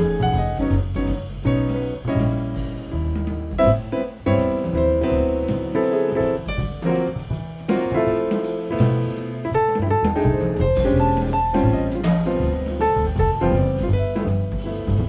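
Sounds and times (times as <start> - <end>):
drum kit: 0.0 - 15.0
grand piano: 0.0 - 15.0
upright double bass: 0.0 - 15.0.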